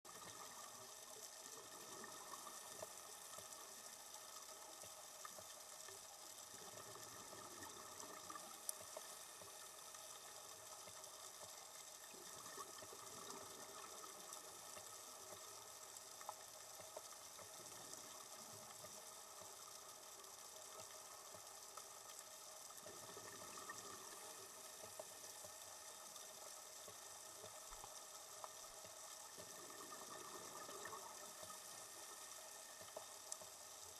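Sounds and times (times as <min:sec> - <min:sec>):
faint clicks: 0:00.1 - 0:33.9.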